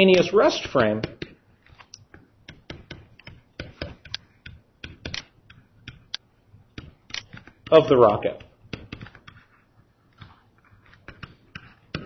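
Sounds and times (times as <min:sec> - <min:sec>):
stylus tapping on screen: 0:00.6 - 0:12.0.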